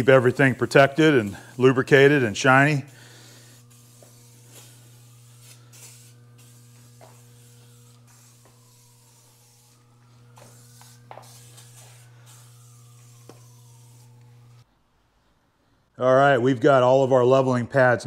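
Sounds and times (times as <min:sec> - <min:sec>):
aerosol can spraying: 0:00.0 - 0:14.6
low electrical hum: 0:00.0 - 0:18.0.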